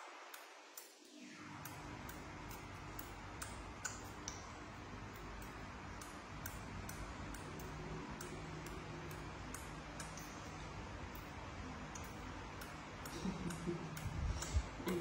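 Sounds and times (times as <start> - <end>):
steady low hum: 0.0 - 15.0
baby monkeys sucking bottles: 1.6 - 15.0.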